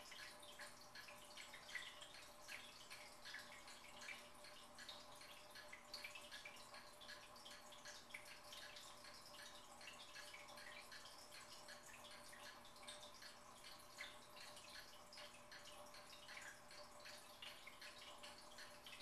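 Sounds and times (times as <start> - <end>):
fish tank water trickling: 0.0 - 19.0.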